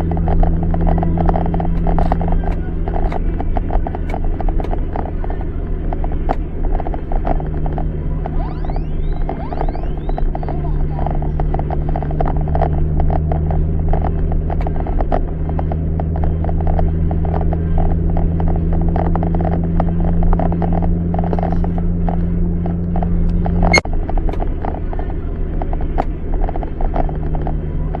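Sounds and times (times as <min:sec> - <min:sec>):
car cabin rumble: 0:00.0 - 0:28.0.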